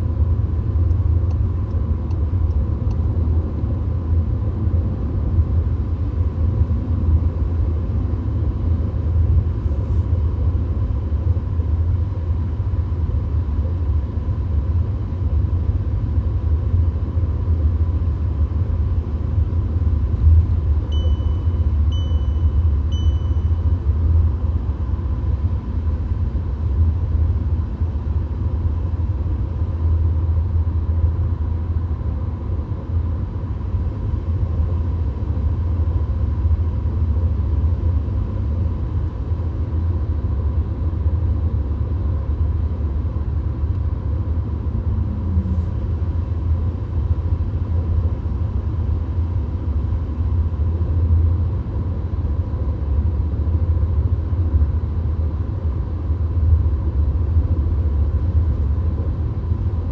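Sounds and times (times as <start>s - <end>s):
car road and engine rumble: 0.0s - 59.9s
faint steady whine: 0.0s - 59.9s.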